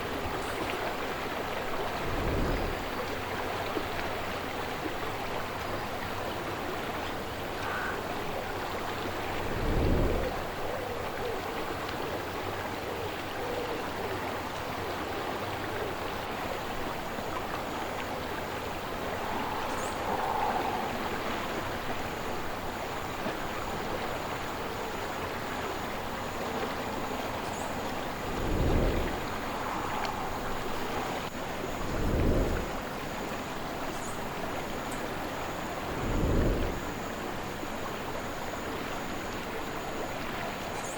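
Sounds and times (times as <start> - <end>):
wind buffeting microphone: 0.0 - 12.9, 14.0 - 38.8
river water flowing: 0.0 - 40.9.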